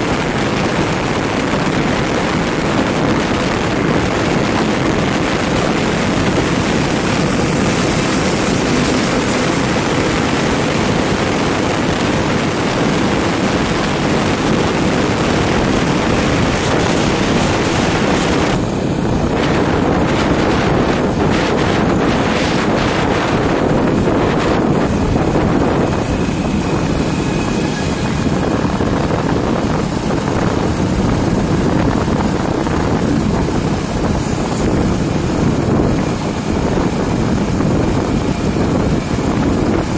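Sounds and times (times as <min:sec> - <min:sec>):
road and engine noise: 0:00.0 - 0:39.9
wind rushing over microphone: 0:00.0 - 0:39.9.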